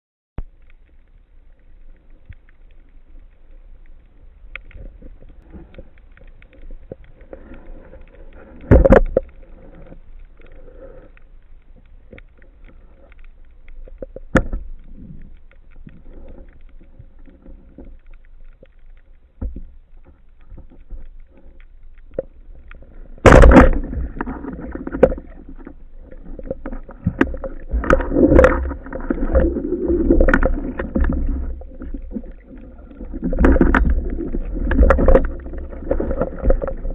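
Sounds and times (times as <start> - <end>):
low underwater noise: 0.4 - 36.9.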